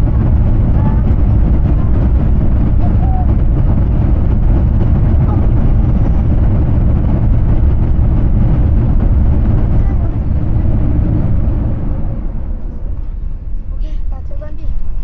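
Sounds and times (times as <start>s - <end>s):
low rumble of jet engines and airflow: 0.0s - 15.0s.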